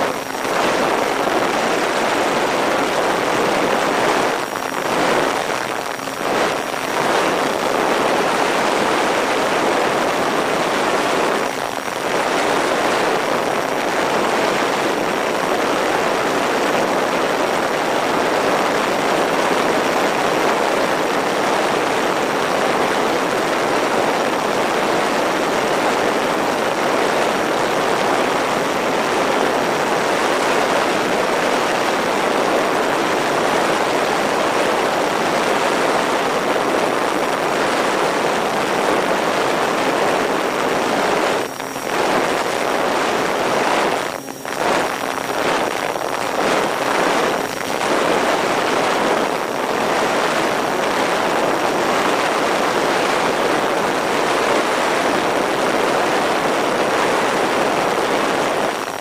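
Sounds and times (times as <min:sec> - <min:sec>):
airflow and propeller noise: 0:00.0 - 0:59.0.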